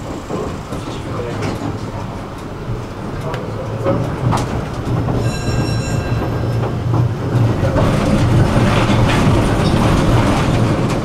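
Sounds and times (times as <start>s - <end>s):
tram clattering over track: 0.0s - 11.0s
tram wheels rumbling: 0.0s - 11.0s.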